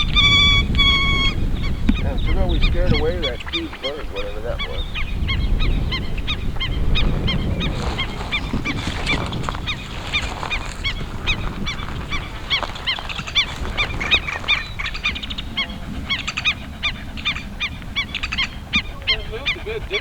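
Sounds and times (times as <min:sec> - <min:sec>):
flock of birds calling: 0:00.0 - 0:20.0.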